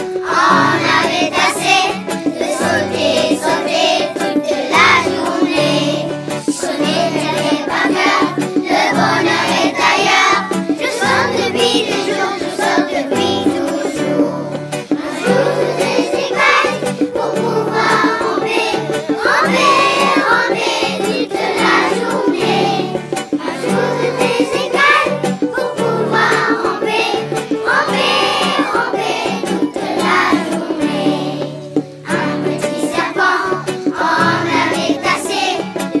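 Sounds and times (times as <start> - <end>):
children singing together: 0.0 - 36.0
instrumental backing: 0.0 - 36.0.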